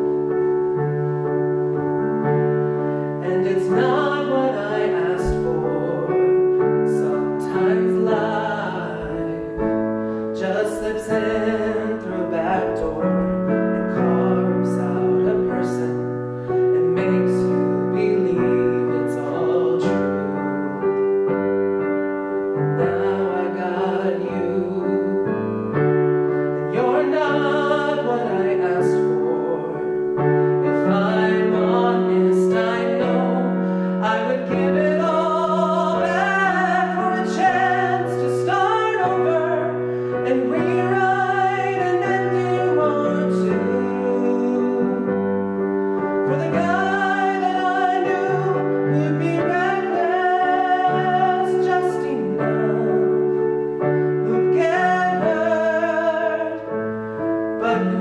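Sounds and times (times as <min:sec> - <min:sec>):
piano chords: 0:00.0 - 0:58.0
man singing tenor: 0:03.2 - 0:09.8, 0:10.4 - 0:16.0, 0:16.7 - 0:20.4, 0:22.8 - 0:25.3, 0:26.6 - 0:45.2, 0:46.2 - 0:53.4, 0:54.2 - 0:56.8, 0:57.6 - 0:58.0.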